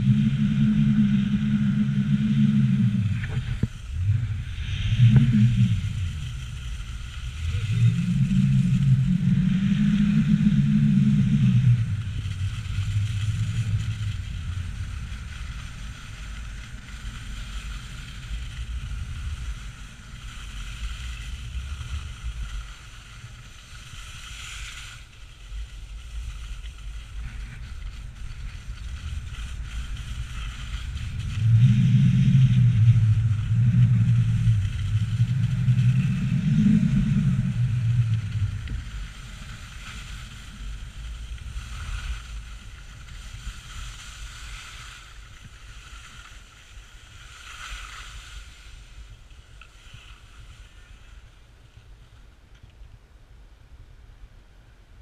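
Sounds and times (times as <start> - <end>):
wind buffeting microphone: 0.0 - 23.9, 25.1 - 47.2
skis scraping over snow: 0.0 - 52.3.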